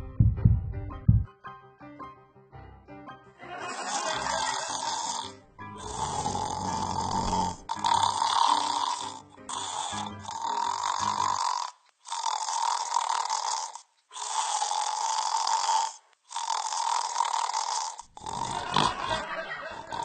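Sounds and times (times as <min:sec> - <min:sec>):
person snoring: 0:03.6 - 0:20.0.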